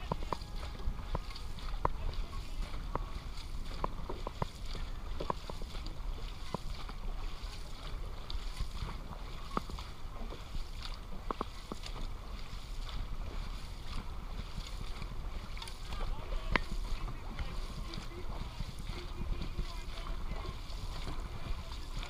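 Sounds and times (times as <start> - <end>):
paddles splashing in water: 0.0 - 22.0
wind rumble on microphone: 0.0 - 22.0.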